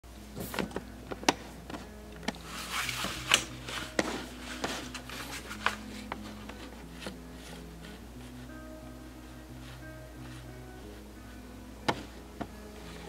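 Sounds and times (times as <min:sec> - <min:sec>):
soft background music: 0:00.1 - 0:13.0.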